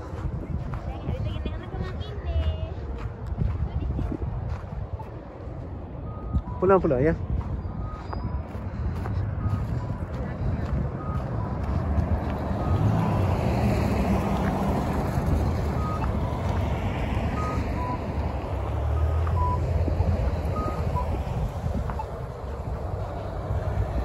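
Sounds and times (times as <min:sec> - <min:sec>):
wind on microphone: 0:00.0 - 0:06.6, 0:07.2 - 0:24.0
traffic driving past: 0:00.0 - 0:24.0
heavy vehicle rumbling by: 0:03.6 - 0:24.0.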